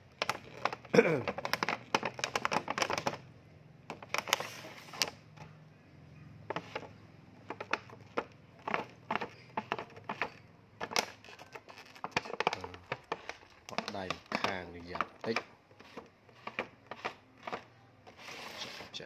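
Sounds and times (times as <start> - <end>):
plastic packaging crackling: 0.0 - 3.2, 3.9 - 5.3, 6.5 - 19.0.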